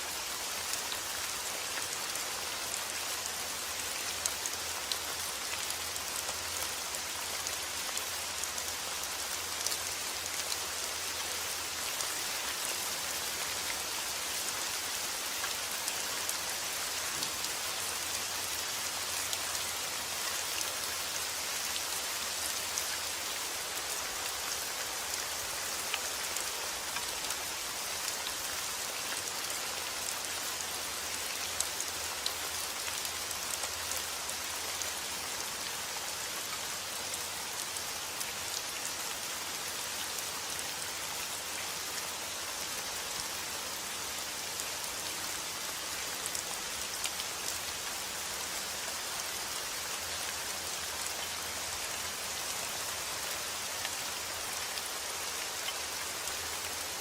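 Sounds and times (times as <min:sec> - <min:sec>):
rain on a surface: 0:00.0 - 0:57.0.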